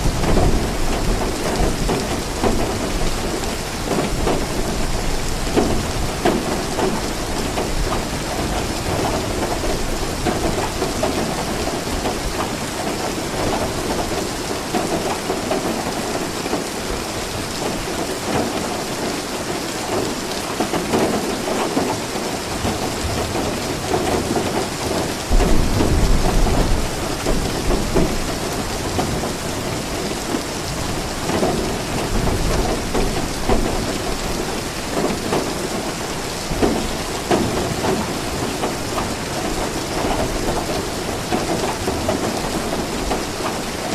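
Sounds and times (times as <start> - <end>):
low rumble of thunder: 0.0 - 16.1, 22.6 - 43.2
steady rain falling: 0.0 - 43.9.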